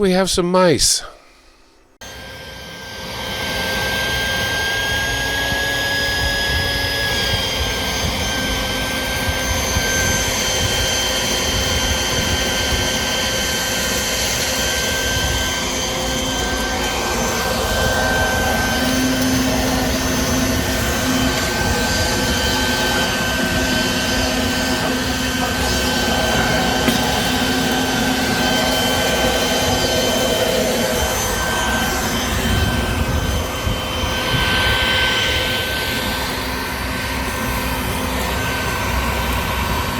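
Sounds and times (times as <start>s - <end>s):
motor whining: 3.1s - 39.9s.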